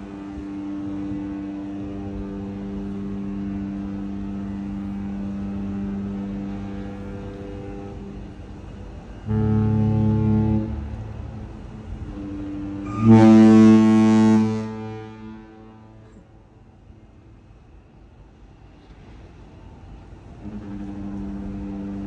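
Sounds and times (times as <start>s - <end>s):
deeper ship horn: 0.0s - 17.7s, 18.7s - 22.0s
ship horn blast: 0.0s - 17.7s, 18.7s - 22.0s.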